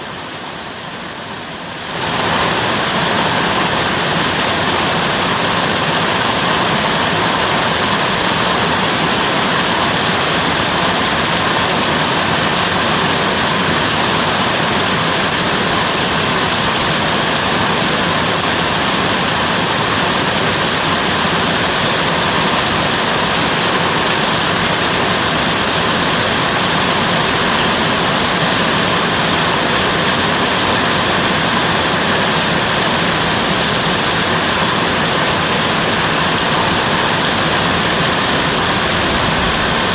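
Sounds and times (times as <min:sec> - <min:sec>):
heavy rain hissing: 0:00.1 - 0:39.9.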